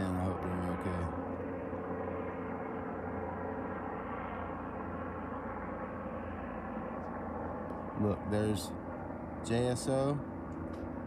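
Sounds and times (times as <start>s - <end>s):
helicopter droning: 0.0s - 11.0s.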